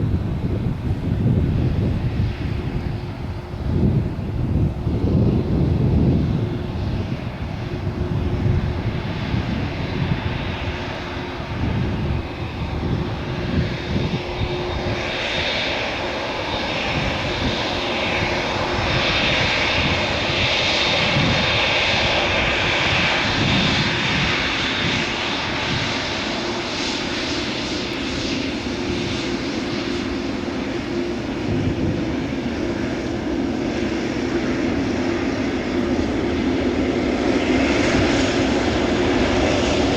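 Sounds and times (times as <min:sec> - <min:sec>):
high jet whine: 0:00.0 - 0:39.9
jet engines at takeoff: 0:00.0 - 0:39.9.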